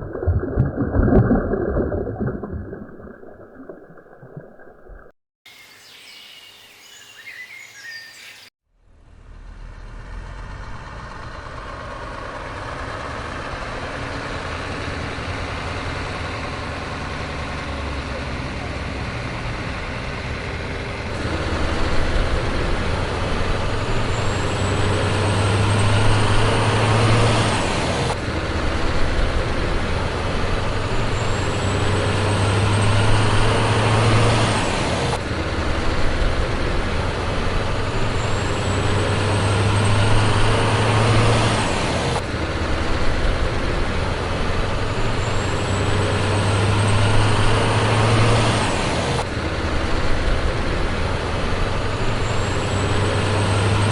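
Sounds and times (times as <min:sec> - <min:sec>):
heavy truck engine revving: 0:09.0 - 0:53.9.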